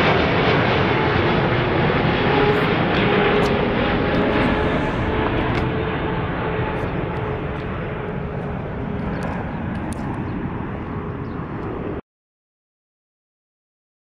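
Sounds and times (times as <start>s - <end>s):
jet airliner flying past: 0.0s - 12.0s.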